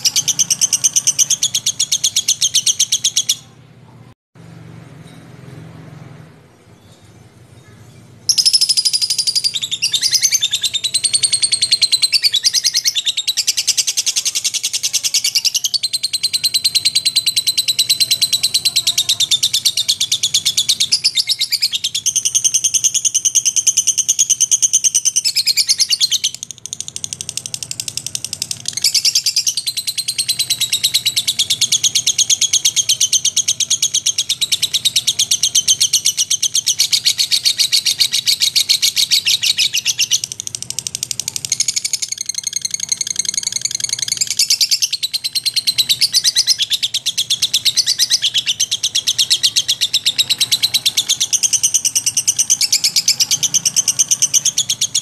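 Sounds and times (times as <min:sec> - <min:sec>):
lovebird chattering trill: 0:00.0 - 0:03.6, 0:07.6 - 0:55.0.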